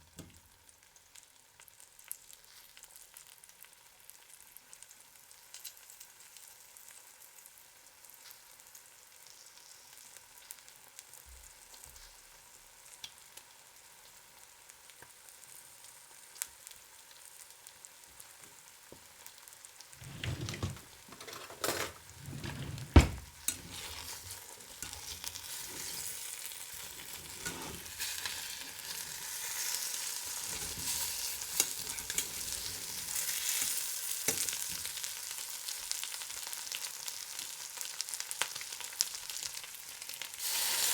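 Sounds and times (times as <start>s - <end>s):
eggs sizzling in a pan: 0.0s - 20.0s, 23.2s - 40.9s.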